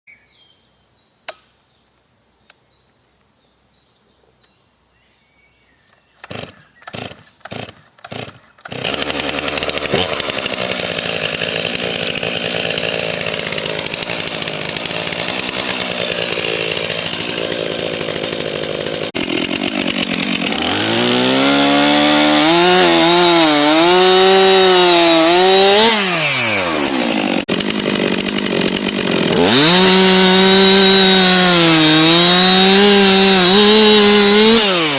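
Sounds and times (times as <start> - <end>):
chainsaw starting and revving: 6.2 - 34.9.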